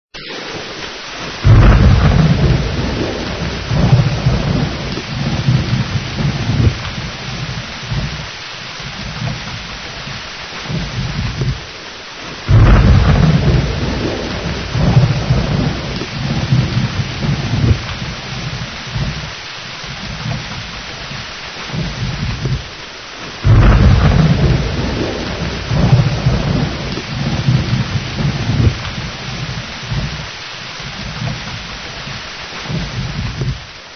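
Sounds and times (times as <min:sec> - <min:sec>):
thunder rumbling: 0:00.2 - 0:33.7
heavy rain: 0:00.2 - 0:33.9.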